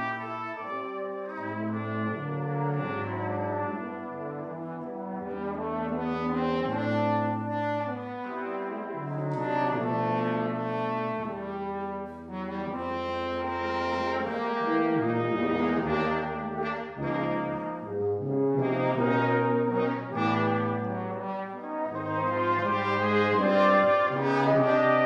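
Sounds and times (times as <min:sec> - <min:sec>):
brass quintet playing slow ballad: 0:00.0 - 0:25.0
tuba bass line: 0:00.0 - 0:25.0.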